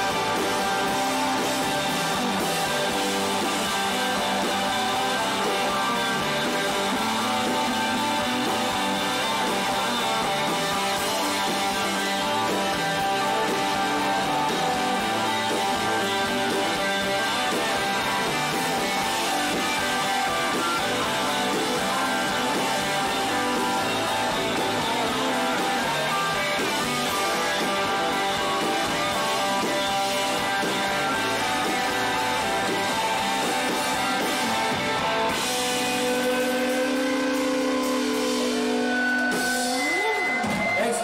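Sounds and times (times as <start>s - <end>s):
electric guitar: 0.0s - 41.0s
live band music: 0.0s - 41.0s.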